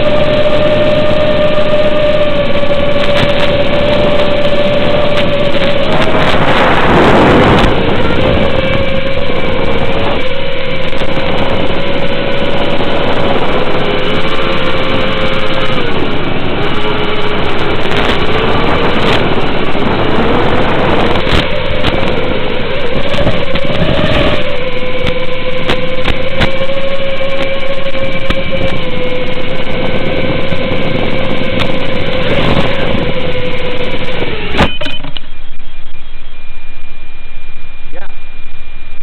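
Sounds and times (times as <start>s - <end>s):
electric motor whining: 0.0s - 38.9s
heavy noise: 0.0s - 39.0s.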